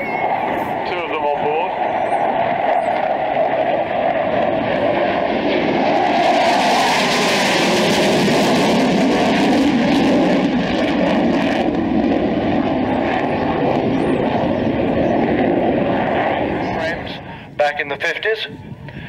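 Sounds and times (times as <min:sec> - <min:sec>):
jet engines roaring in flyby: 0:00.0 - 0:19.0.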